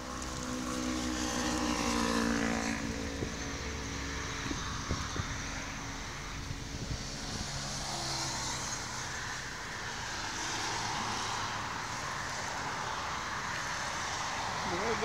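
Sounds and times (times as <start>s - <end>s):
cars passing by: 0.0s - 15.0s.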